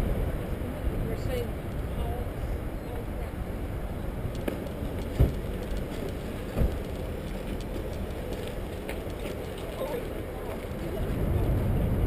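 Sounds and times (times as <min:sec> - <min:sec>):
wind on microphone: 0:00.0 - 0:12.0
bicycle tyres rumbling on trail: 0:00.1 - 0:12.0.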